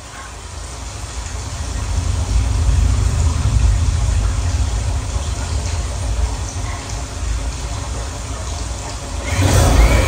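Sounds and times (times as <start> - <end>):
deep heavy rumble: 1.2 - 10.0.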